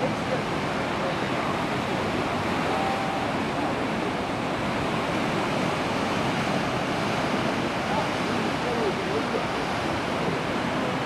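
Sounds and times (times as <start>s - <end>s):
surf washing over rocky shore: 0.0s - 11.0s.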